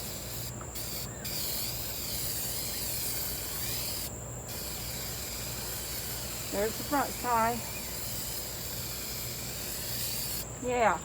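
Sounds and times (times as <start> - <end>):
aerosol spray can hissing: 0.0 - 10.5.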